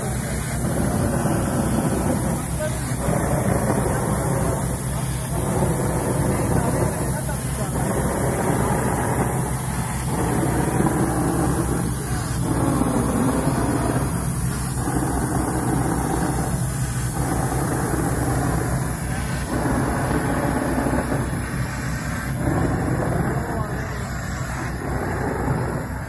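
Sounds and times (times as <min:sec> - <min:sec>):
concrete pump engine surging: 0:00.0 - 0:26.0.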